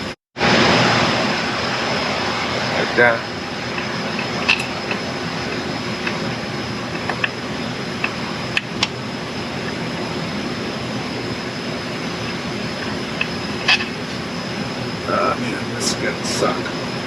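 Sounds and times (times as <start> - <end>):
steady machine drone: 0.0 - 17.0.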